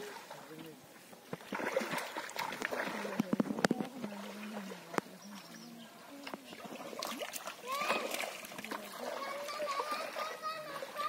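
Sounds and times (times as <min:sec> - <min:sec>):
short splashes: 0:00.0 - 0:11.0
water splashing and sloshing: 0:00.0 - 0:11.0.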